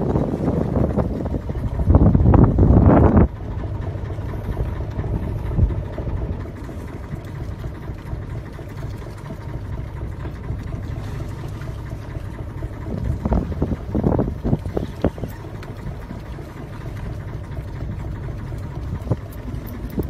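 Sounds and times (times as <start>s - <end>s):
boat engine rumbling: 0.0s - 20.0s.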